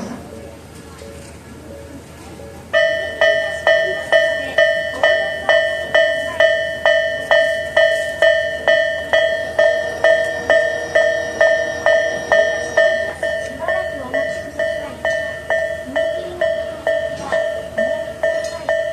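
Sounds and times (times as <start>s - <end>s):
level-crossing warning bell: 0.0s - 18.9s.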